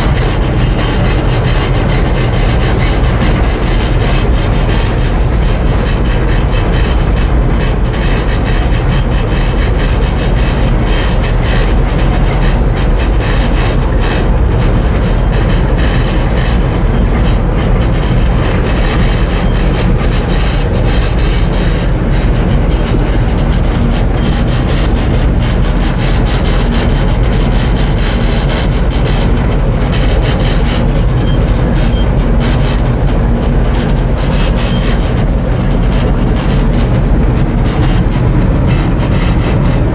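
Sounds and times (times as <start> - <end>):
ship diesel engine droning: 0.0 - 39.9.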